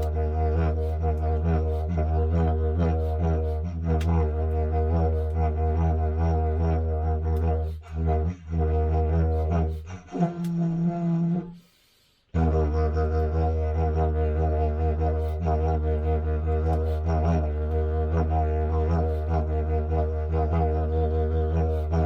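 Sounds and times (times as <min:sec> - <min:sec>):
low droning wind instrument: 0:00.0 - 0:22.0.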